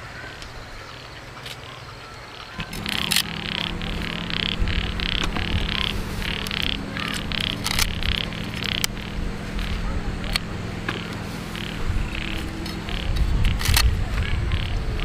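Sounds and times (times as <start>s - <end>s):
high pulsed animal calls: 2.3s - 15.0s.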